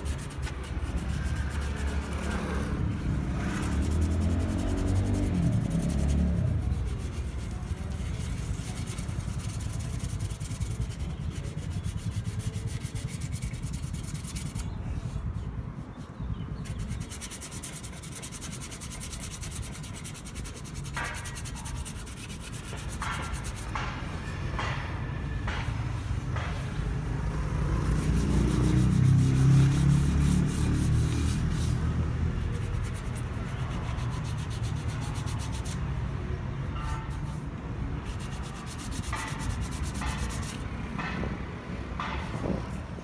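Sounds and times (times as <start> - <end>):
sandpaper rubbing on metal: 0.0 - 24.7, 27.3 - 41.0.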